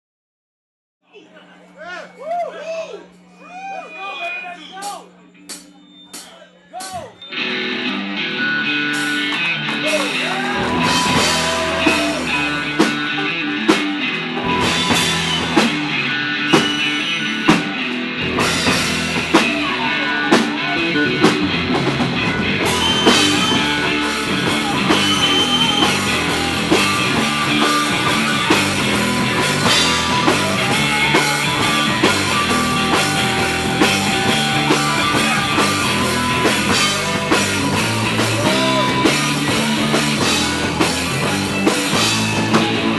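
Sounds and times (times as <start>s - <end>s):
rock band playing: 3.2s - 42.9s.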